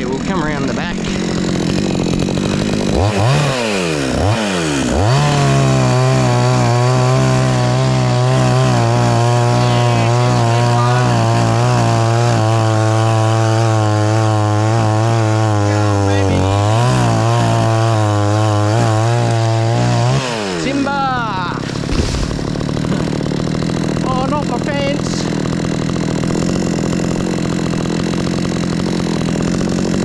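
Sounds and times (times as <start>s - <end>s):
chainsaw cutting into tree trunk: 0.0s - 30.0s
chainsaw engine revving: 0.0s - 30.0s.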